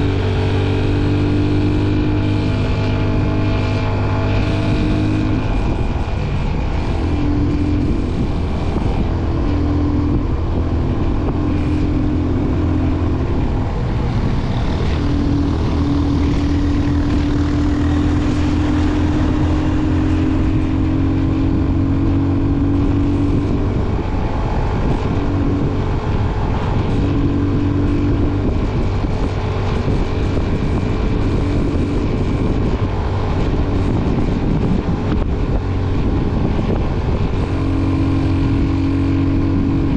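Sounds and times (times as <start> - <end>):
motorcycle engine droning: 0.0 - 39.9
road and wind noise: 0.0 - 39.9.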